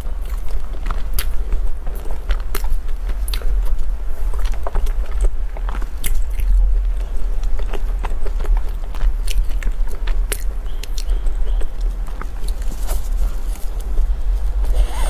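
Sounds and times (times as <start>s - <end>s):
person chewing: 0.0s - 15.0s
steady low hum: 0.0s - 15.0s.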